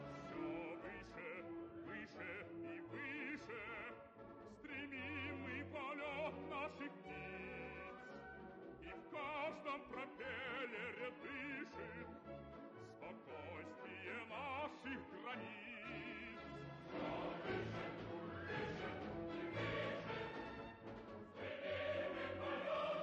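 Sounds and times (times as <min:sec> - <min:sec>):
operatic singing with vibrato: 0:00.0 - 0:23.0.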